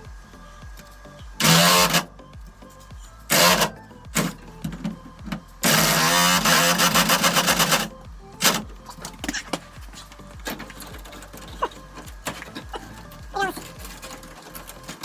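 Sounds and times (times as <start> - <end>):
impact wrench hammering: 0.7 - 14.5.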